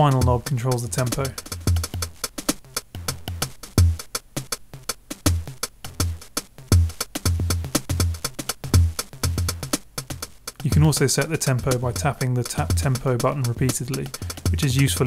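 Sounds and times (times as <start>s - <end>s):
crisp hi-hat ticks: 0.0s - 15.0s
glitchy electronic drum beat: 0.0s - 15.0s
kick drum thumps: 0.0s - 15.0s.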